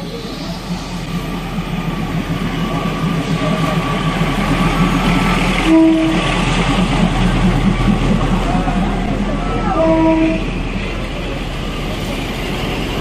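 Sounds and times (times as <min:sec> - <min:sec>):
diesel railcar rumbling past: 0:00.0 - 0:13.0.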